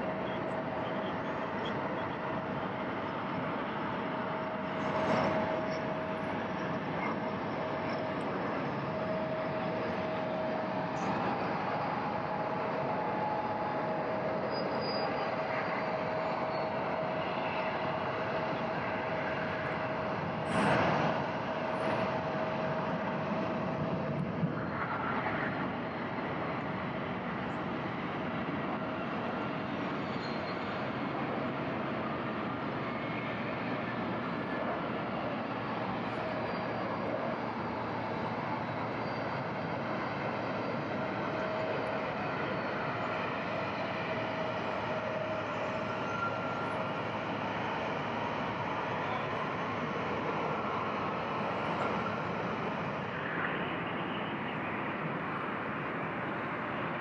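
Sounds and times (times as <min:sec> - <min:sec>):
faint engine whine: 0:00.0 - 0:57.0
jet engines rushing: 0:00.0 - 0:57.0.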